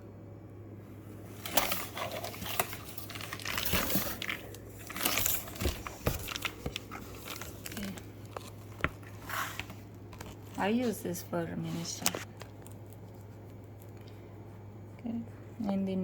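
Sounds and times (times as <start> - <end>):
faint low hum: 0.0 - 16.0
packaging crinkling and rustling: 1.1 - 14.2.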